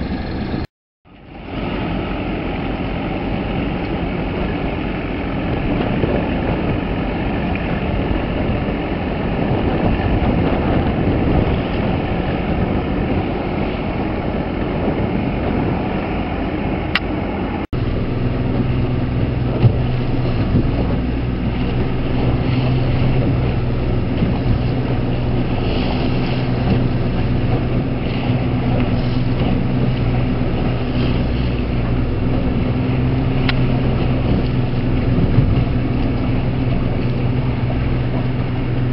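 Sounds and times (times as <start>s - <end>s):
boat engine running: 0.0s - 38.9s
low hum: 0.0s - 38.9s
water noise: 0.0s - 38.9s
wind: 0.0s - 38.9s.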